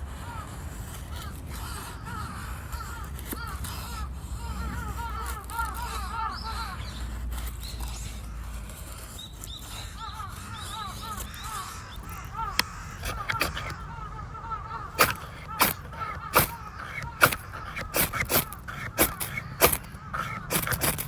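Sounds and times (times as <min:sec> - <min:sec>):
bird chirping: 0:01.1 - 0:21.0.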